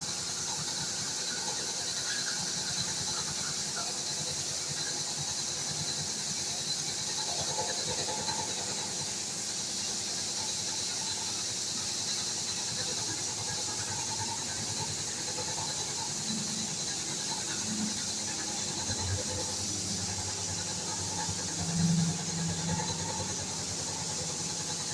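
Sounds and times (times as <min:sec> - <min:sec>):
machine high hiss: 0:00.0 - 0:24.9.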